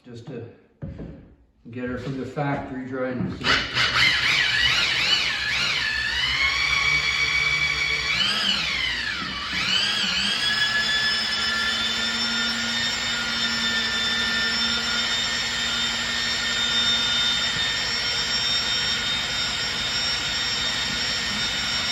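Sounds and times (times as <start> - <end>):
electric mixer motor whining: 3.4 - 21.9.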